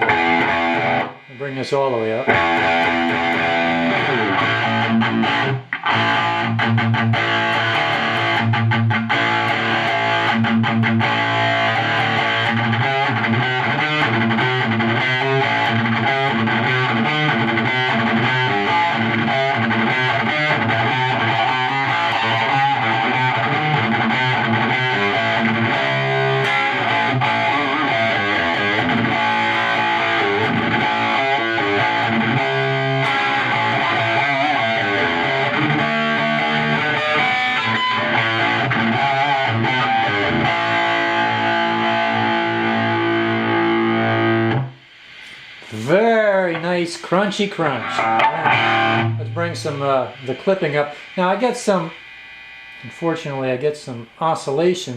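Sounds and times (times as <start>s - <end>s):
distorted electric guitar: 0.0s - 54.9s.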